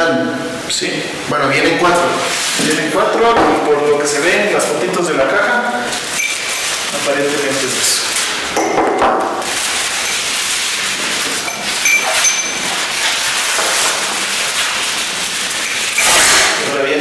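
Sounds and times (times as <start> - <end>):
plastic packaging rustling: 1.8 - 16.8.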